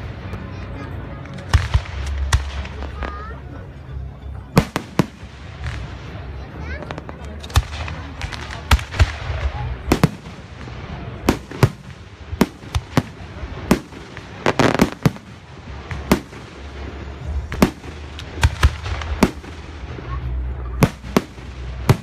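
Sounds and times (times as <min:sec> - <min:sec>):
fireworks bursting: 0:01.1 - 0:03.5, 0:04.5 - 0:22.0.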